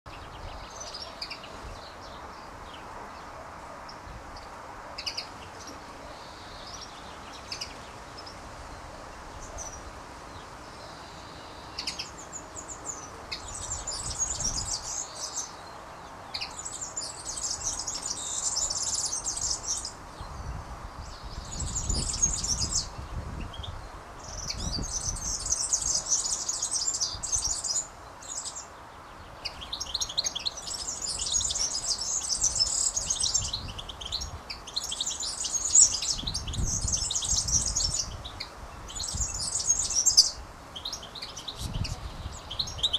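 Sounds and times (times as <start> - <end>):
small birds chirping and singing: 0.1 - 42.9.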